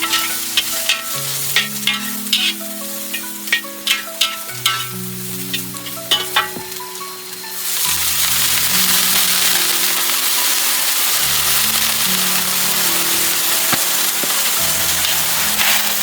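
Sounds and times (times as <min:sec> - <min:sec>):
background music with held notes: 0:00.0 - 0:16.0
food sizzling in hot oil: 0:00.0 - 0:16.0.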